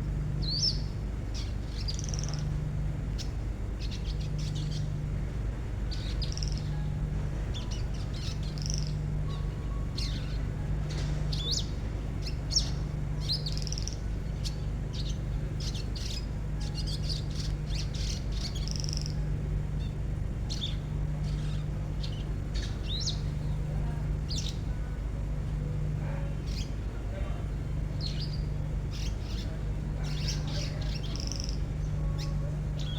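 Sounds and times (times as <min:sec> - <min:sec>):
songbird rapid chirps: 0:00.0 - 0:32.9.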